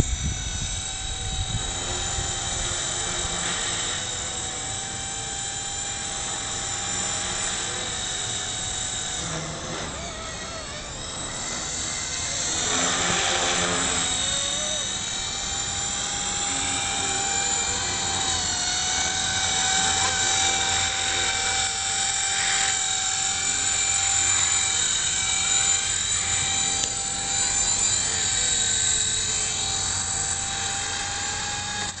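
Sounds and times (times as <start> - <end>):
rc helicopter motor whining: 0.0 - 32.0.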